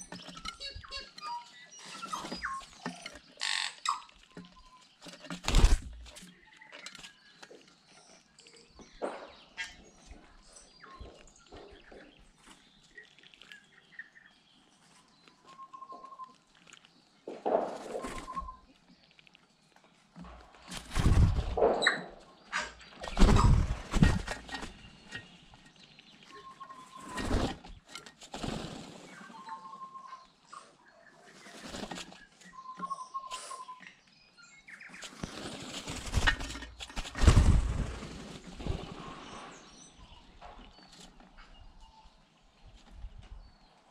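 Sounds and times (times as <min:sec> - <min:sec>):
bird calling with clicks and whistles: 0:00.0 - 0:16.9, 0:17.9 - 0:28.2, 0:29.0 - 0:37.2.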